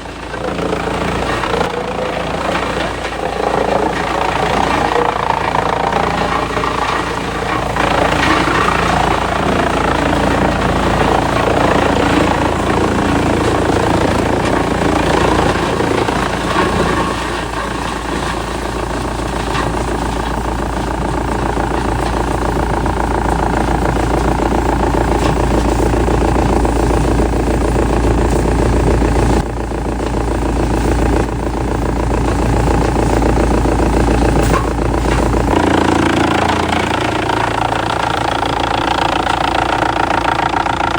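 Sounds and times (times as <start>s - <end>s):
churning mechanical noise: 0.0s - 40.9s
heavy machinery engine drone: 0.0s - 40.9s.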